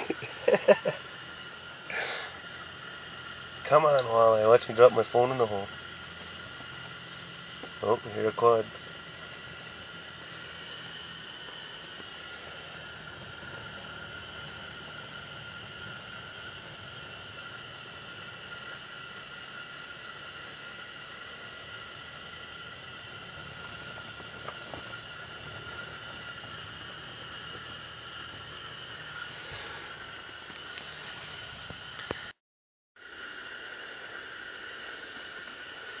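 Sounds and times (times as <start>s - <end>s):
steady hiss: 0.0s - 32.4s, 33.0s - 36.0s.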